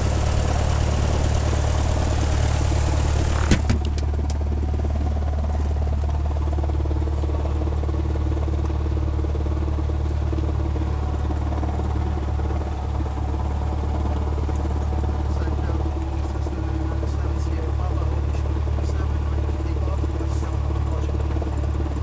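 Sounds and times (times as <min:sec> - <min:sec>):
airplane piston engine and propeller: 0:00.0 - 0:22.0.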